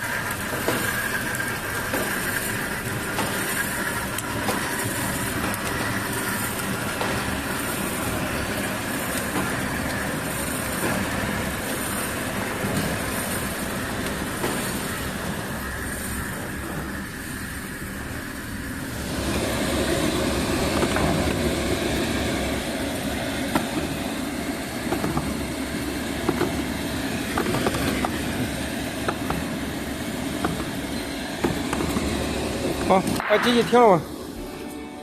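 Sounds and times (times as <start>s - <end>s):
machine whirring: 0.0s - 35.0s.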